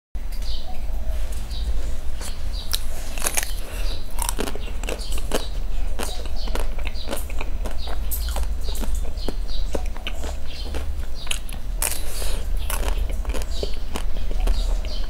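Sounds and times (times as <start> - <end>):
chewing: 2.2 - 15.0
ice cream coating cracking: 2.7 - 15.0.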